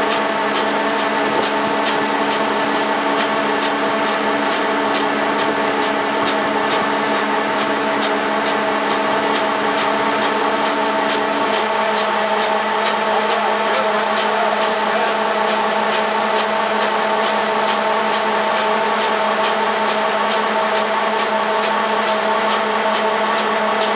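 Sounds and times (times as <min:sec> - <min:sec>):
feed auger humming and whining: 0:00.0 - 0:23.9.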